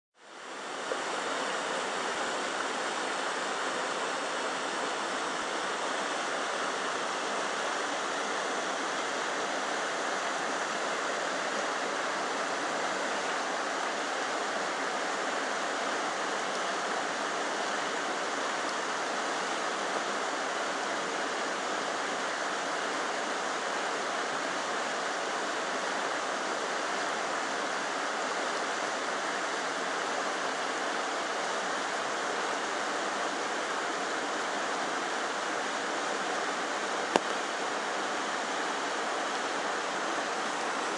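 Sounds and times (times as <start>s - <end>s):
river water rushing: 0.2s - 40.9s.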